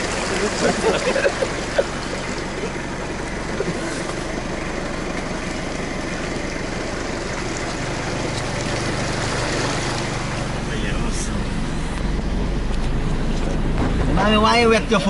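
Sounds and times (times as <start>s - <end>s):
tyre and road noise: 0.0s - 15.0s
vehicle engine hum: 0.0s - 15.0s.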